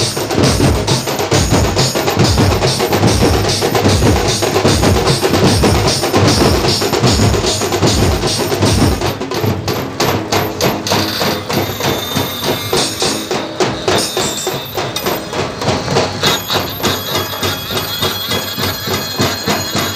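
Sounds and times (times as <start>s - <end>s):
fast drum rhythm: 0.0s - 19.9s.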